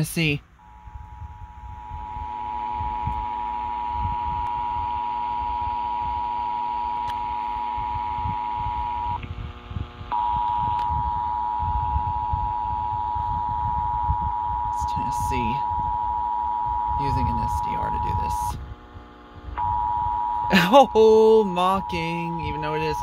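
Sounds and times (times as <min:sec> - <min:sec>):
low radio static: 0:00.0 - 0:23.0
two-tone alarm: 0:00.6 - 0:09.2, 0:10.1 - 0:18.6, 0:19.6 - 0:23.0.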